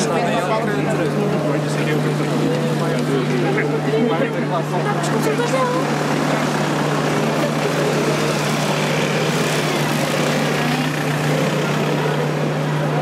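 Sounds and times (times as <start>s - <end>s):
crowd murmur: 0.0s - 13.0s
faint voices: 0.0s - 13.0s.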